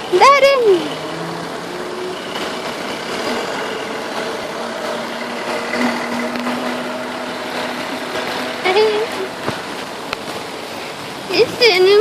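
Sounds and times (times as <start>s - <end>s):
heavy rain: 0.0s - 12.0s
traffic engines: 0.0s - 12.0s.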